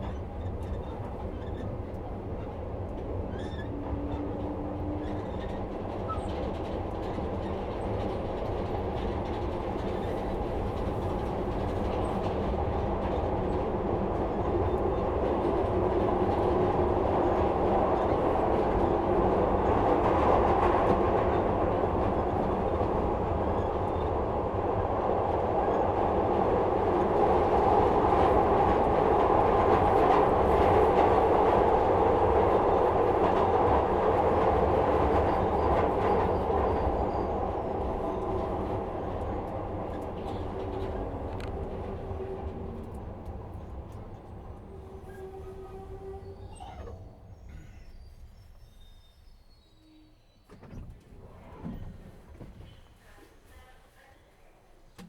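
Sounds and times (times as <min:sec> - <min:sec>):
train wheels rumbling on rail: 0:00.0 - 0:53.4.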